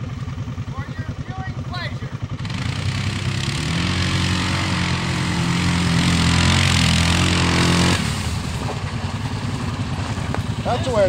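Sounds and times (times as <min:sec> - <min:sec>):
quad engine pulling: 0:00.0 - 0:11.0.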